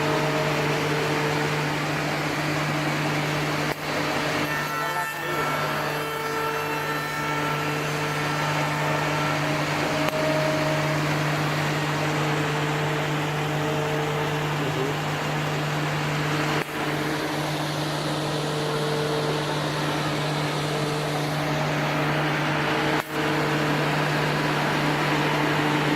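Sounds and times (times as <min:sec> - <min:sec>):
machine motor drone: 0:00.0 - 0:25.9.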